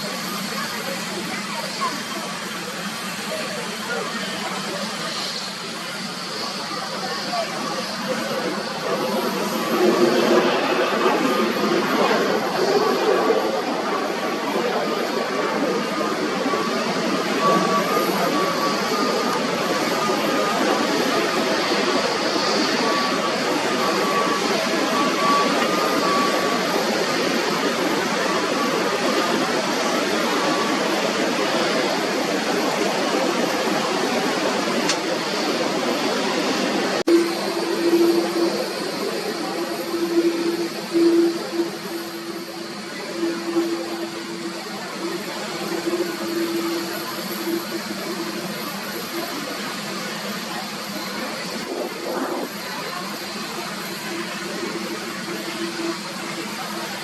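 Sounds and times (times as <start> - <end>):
jet airliner engine noise: 0.0 - 57.0.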